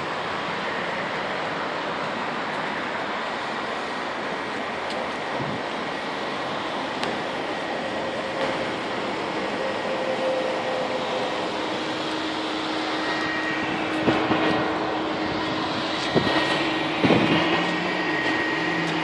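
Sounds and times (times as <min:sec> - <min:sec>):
vehicle rushing hum: 0:00.0 - 0:19.0.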